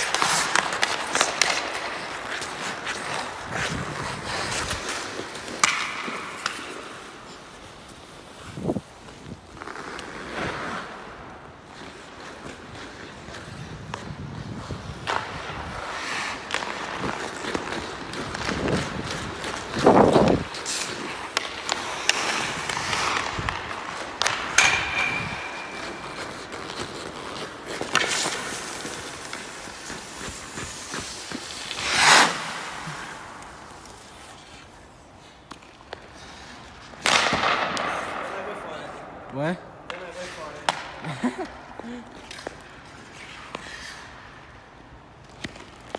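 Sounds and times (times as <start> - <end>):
ice skates scraping ice: 0.0 - 45.9.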